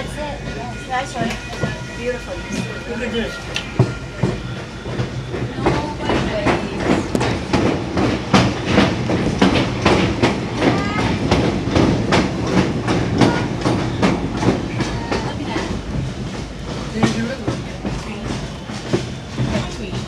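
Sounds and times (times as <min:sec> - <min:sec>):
train rumble: 0:00.0 - 0:20.0
train wheels clacking on track: 0:00.0 - 0:20.0.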